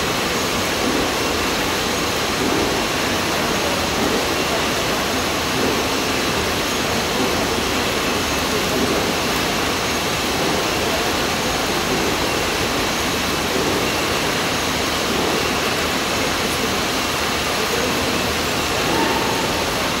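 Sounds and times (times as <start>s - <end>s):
conveyor running: 0.0s - 20.0s.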